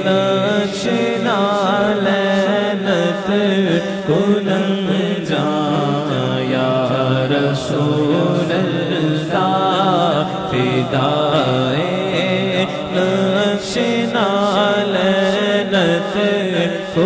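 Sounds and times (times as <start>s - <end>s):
man singing with echo: 0.0s - 17.0s.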